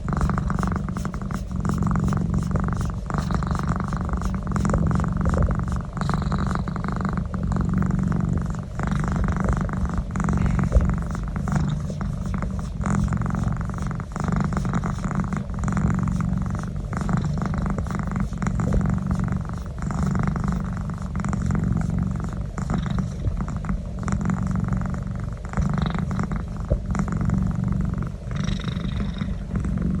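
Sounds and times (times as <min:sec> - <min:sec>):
cat purring loudly: 0:00.0 - 0:30.0.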